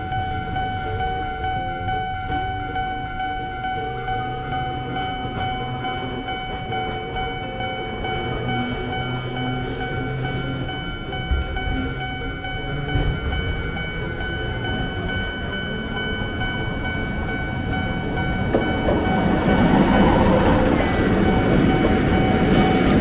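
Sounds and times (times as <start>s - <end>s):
crossing warning bell: 0.0s - 23.0s
train wheels rumbling: 4.4s - 23.0s.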